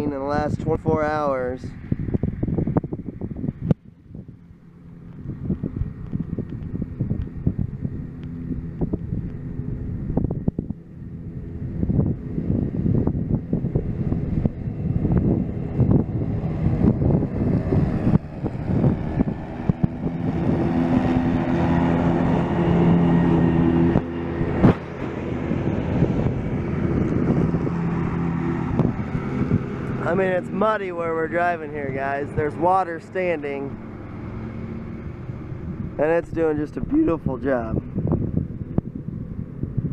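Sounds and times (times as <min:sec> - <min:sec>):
wind buffeting microphone: 0:00.0 - 0:39.9
mower diesel engine running: 0:03.8 - 0:39.9.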